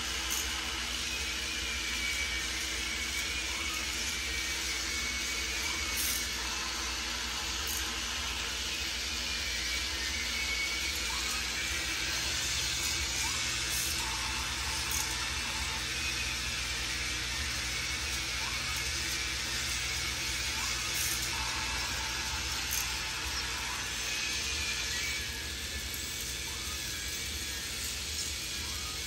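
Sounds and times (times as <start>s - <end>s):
small electric motors whirring: 0.0s - 29.0s.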